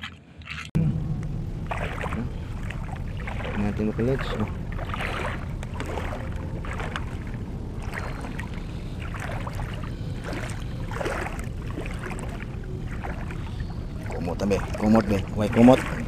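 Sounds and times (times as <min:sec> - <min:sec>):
feet splashing in shallow water: 0:00.0 - 0:00.7, 0:01.6 - 0:16.0
steady low rumble: 0:00.0 - 0:16.0.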